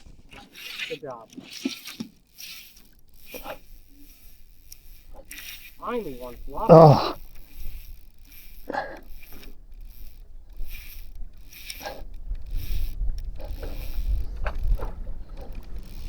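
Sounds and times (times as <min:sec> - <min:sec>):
fishing reel winding and clicking: 0:00.0 - 0:16.0.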